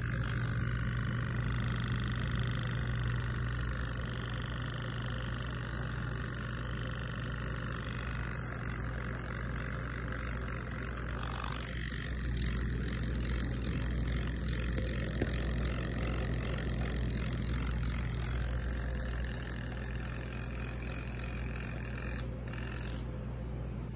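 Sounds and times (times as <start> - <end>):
electric beard trimmer buzzing: 0.0 - 23.2.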